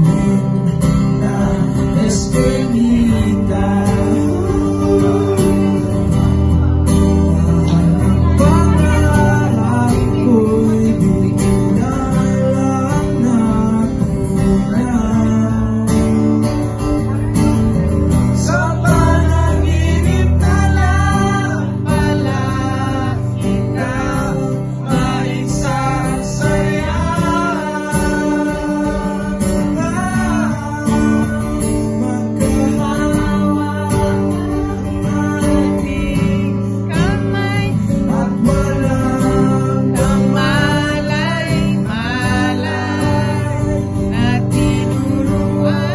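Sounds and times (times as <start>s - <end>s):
acoustic guitar strumming: 0.0s - 45.9s
man singing into a microphone: 0.0s - 45.9s.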